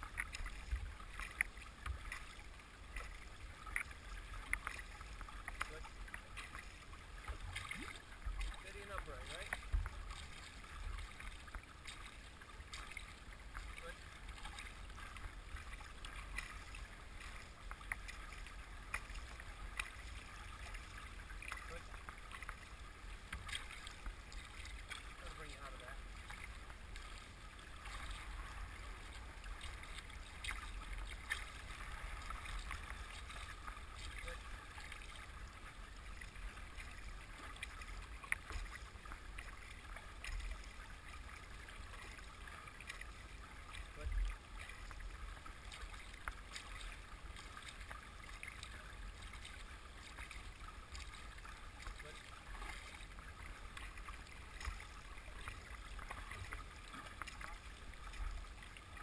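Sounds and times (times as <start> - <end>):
river water rushing and splashing: 0.0 - 59.0.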